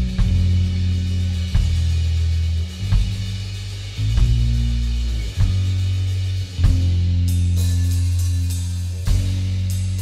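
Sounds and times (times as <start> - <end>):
rock band music: 0.0 - 10.0.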